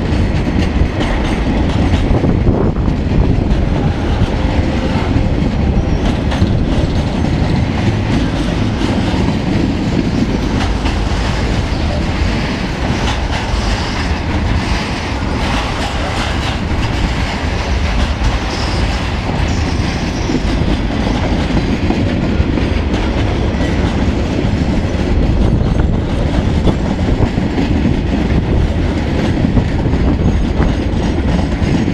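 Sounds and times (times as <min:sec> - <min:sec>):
train wheels rolling on rails: 0:00.0 - 0:31.9.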